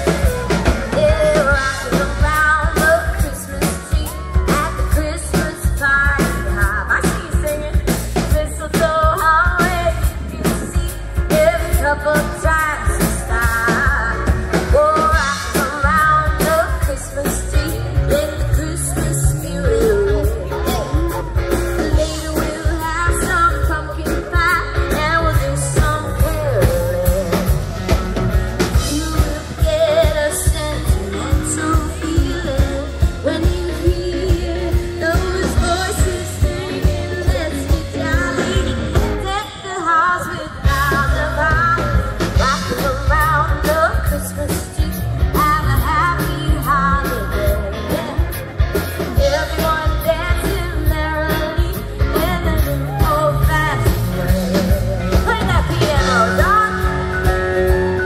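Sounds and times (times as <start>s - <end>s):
pop song with singing: 0.0s - 58.0s.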